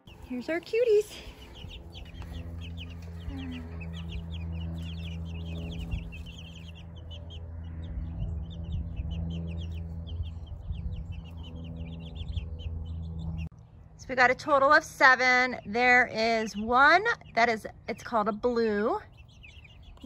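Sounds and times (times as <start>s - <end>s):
chicks peeping: 0.0s - 13.5s, 14.6s - 20.0s
steady low hum: 0.0s - 20.0s.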